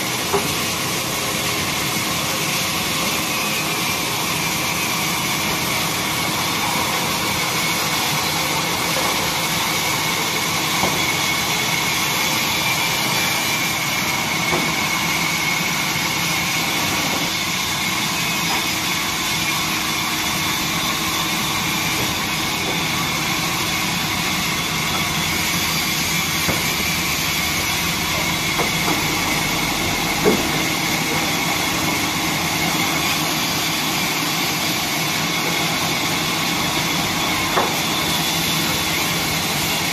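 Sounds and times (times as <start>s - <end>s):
band saw mill droning: 0.0s - 39.9s.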